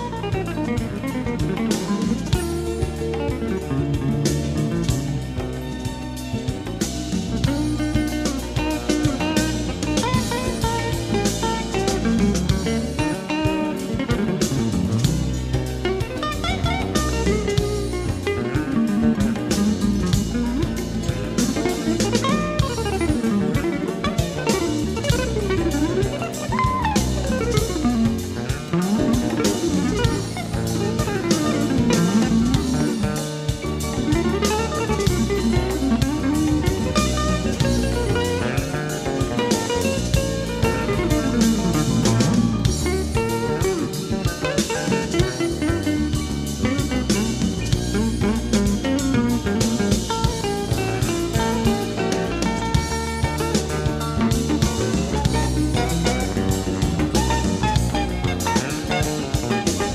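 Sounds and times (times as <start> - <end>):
live jazz band playing: 0.0 - 59.9
quick guitar runs: 0.0 - 59.9.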